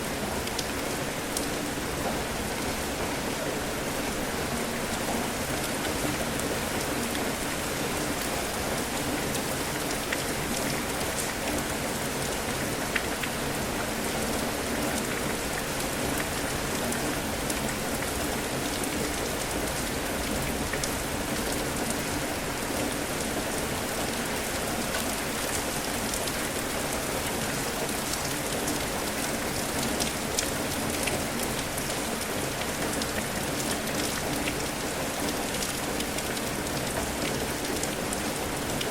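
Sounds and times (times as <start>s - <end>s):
heavy rain: 0.0s - 38.9s
raindrops ticking on a surface: 0.2s - 3.3s, 4.2s - 38.9s.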